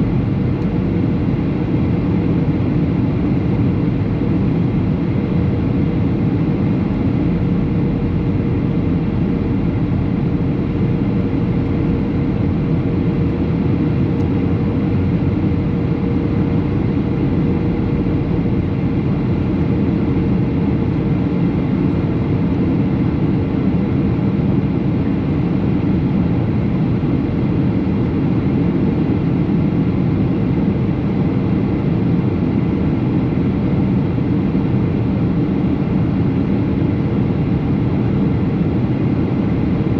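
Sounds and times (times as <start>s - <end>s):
airplane engine and airflow rush: 0.0s - 39.9s.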